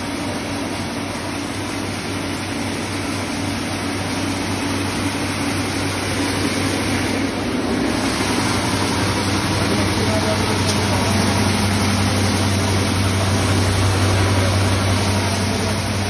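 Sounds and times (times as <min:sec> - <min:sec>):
grinding machine running: 0:00.0 - 0:16.0.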